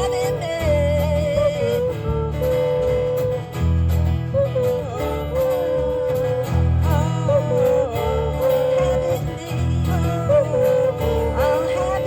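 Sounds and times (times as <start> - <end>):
band playing guitars: 0.0 - 12.0.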